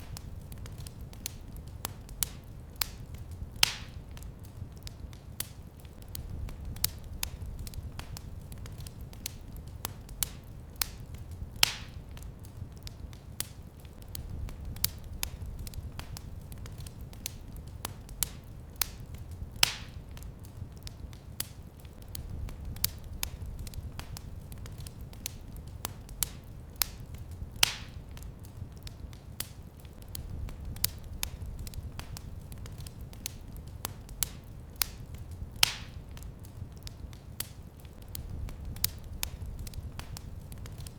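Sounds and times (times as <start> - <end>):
loud fire snaps: 0.0 - 40.9
low rumble of flames: 0.0 - 40.9
wood fire crackling: 0.0 - 40.9.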